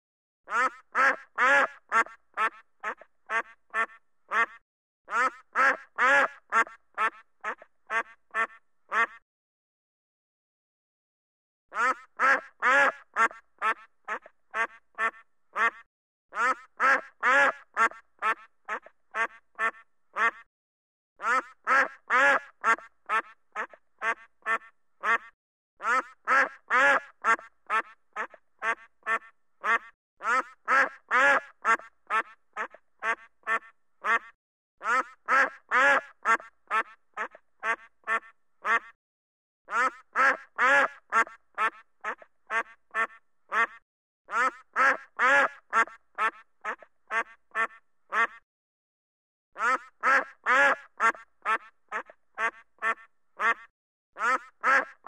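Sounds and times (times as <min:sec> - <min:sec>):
duck quacking: 0:00.5 - 0:09.2, 0:11.7 - 0:20.5, 0:21.2 - 0:39.0, 0:39.7 - 0:48.4, 0:49.6 - 0:55.0.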